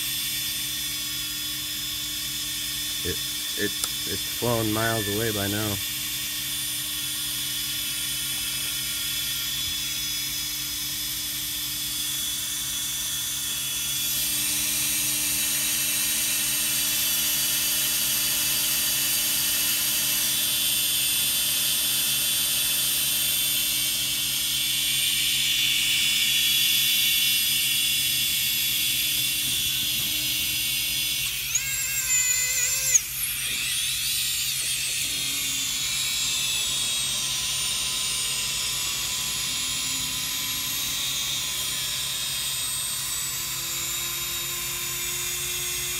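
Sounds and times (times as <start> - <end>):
drone motors whining: 0.0 - 45.9.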